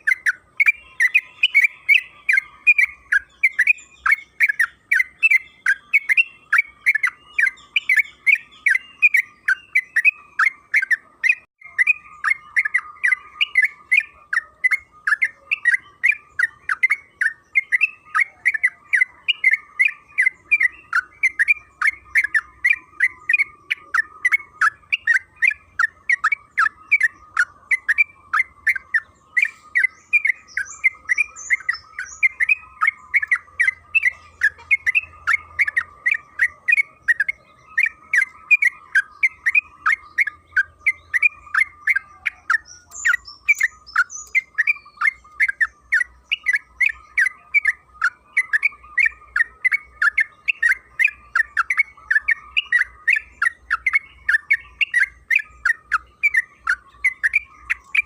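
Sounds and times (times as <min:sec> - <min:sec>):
bird chattering song: 0:00.0 - 0:58.0
faint high chirps: 0:00.0 - 0:58.0.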